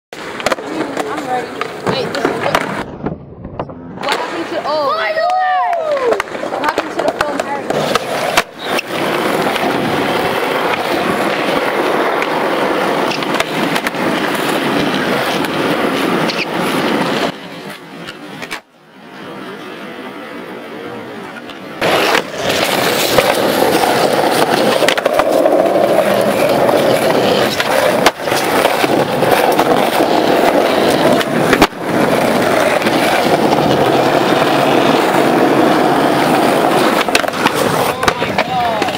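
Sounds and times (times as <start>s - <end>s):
skateboard wheels rolling on asphalt: 0.1s - 38.9s
skateboard clacks: 0.2s - 18.7s, 21.3s - 38.9s.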